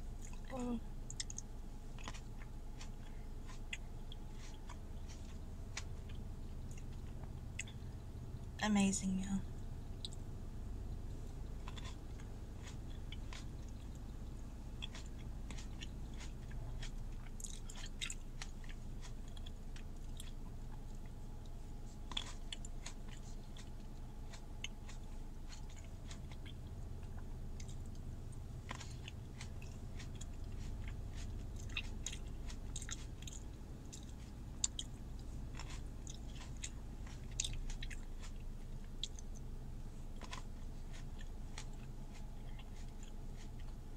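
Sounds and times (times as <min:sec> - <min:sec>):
person chewing grapes: 0:00.0 - 0:08.6, 0:09.4 - 0:43.9
low hum inside car: 0:00.0 - 0:43.9.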